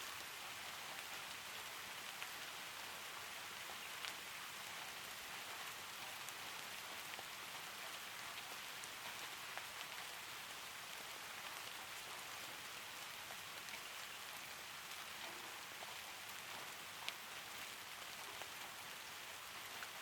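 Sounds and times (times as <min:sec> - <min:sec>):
faint rain ticks: 0:00.0 - 0:20.0
steady rain falling: 0:00.0 - 0:20.0.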